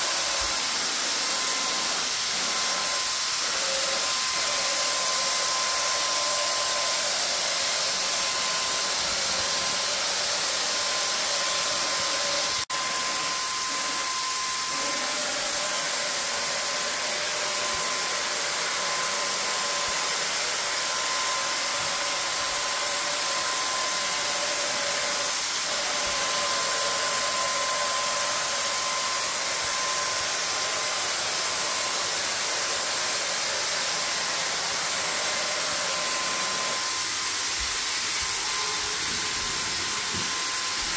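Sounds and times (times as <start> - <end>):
electric paint sprayer hissing: 0.0 - 40.9.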